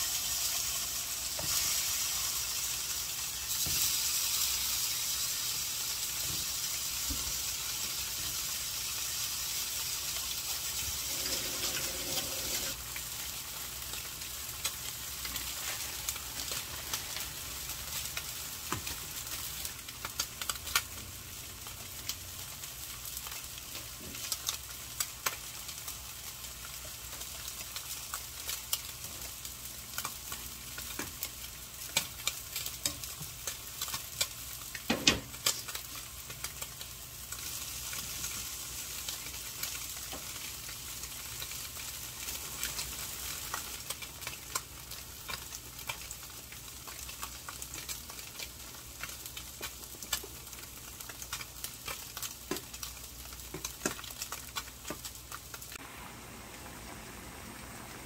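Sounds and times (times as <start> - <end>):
broth boiling in a pot: 0.0 - 58.0.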